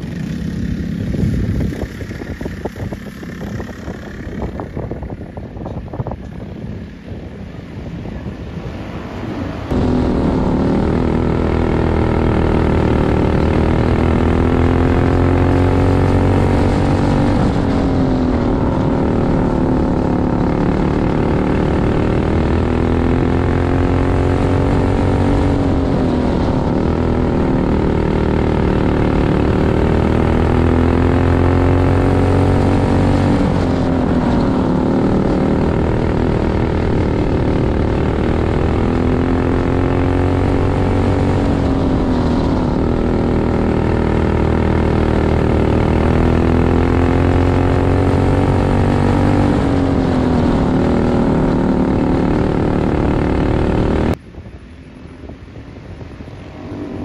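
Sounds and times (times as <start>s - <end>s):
racing kart engine: 0.0s - 54.2s.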